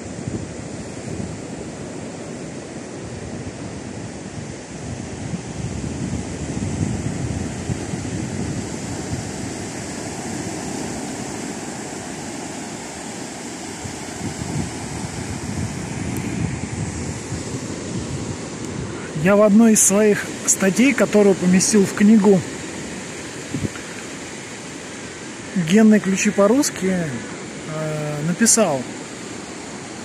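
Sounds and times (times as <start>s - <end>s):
wind buffeting microphone: 0.0s - 25.8s
surf breaking on beach: 0.0s - 30.0s.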